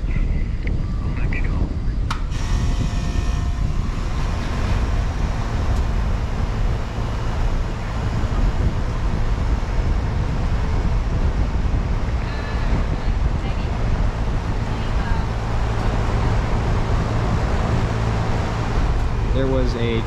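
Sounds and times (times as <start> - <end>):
air conditioner running: 0.0 - 20.0.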